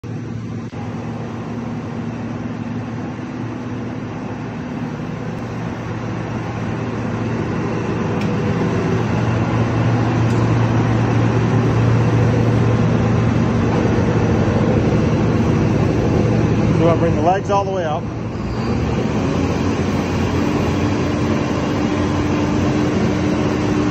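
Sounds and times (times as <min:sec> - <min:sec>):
milling machine diesel hum: 0:00.0 - 0:23.9.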